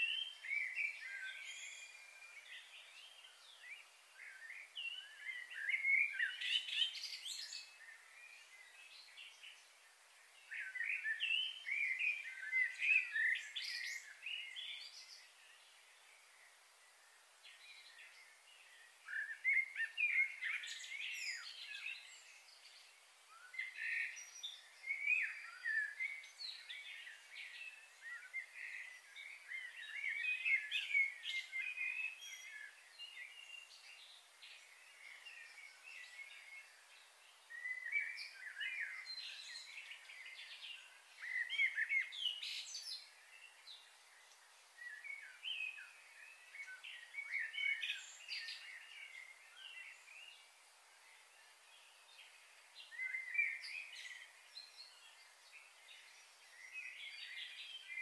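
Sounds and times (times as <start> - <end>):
faint outdoor hiss: 0.0 - 58.0
songbirds chirping and singing: 0.0 - 58.0.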